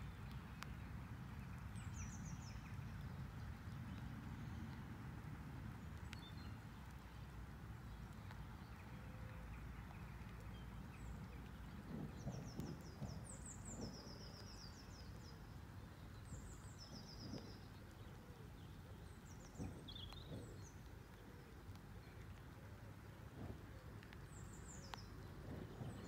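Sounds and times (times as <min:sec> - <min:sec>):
songbirds calling: 0:00.0 - 0:04.9, 0:05.7 - 0:26.0.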